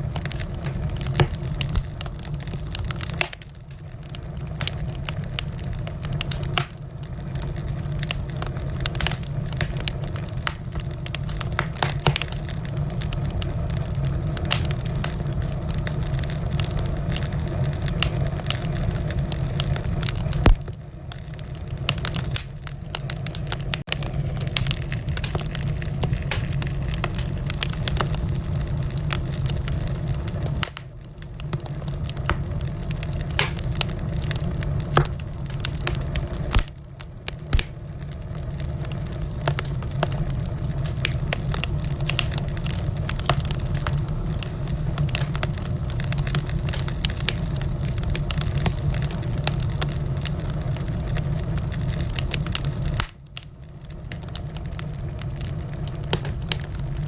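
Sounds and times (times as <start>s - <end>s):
fire popping: 0.0s - 57.0s
wood fire crackling: 0.0s - 57.0s.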